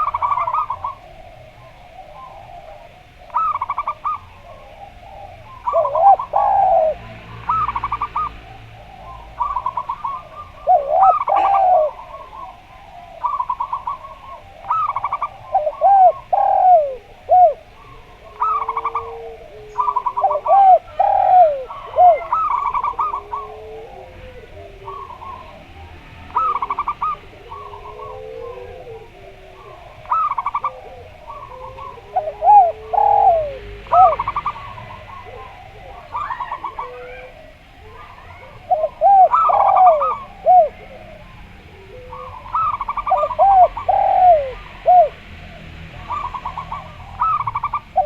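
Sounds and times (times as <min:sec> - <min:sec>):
dove cooing: 0:00.0 - 0:48.0
low drawn-out dove coos: 0:00.0 - 0:48.0.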